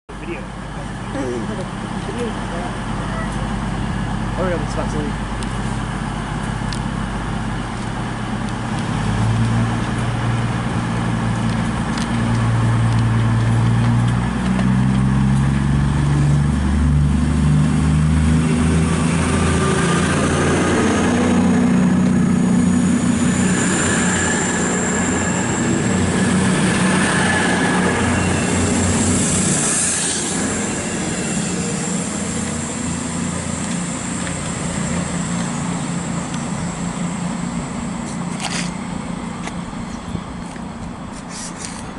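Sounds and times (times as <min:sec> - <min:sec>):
diesel train engines revving: 0:00.1 - 0:41.9
high whine: 0:00.1 - 0:41.9.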